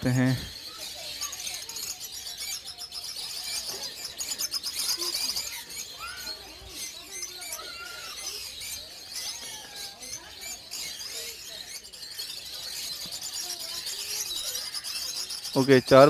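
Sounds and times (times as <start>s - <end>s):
lovebirds chirping and squeaking: 0.0s - 16.0s.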